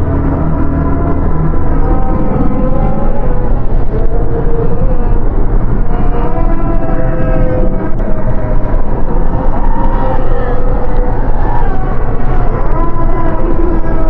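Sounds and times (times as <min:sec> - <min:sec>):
dense low rumble: 0:00.0 - 0:14.0.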